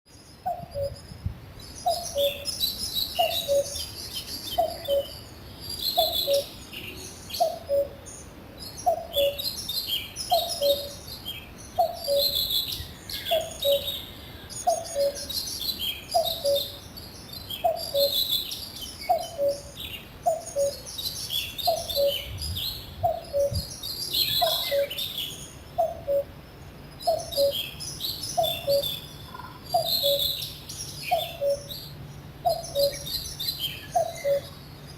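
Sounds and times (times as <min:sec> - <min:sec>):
cuckoo calling: 0:00.4 - 0:01.1, 0:01.8 - 0:05.3, 0:05.9 - 0:08.2, 0:08.8 - 0:16.8, 0:17.6 - 0:26.4, 0:27.0 - 0:34.8.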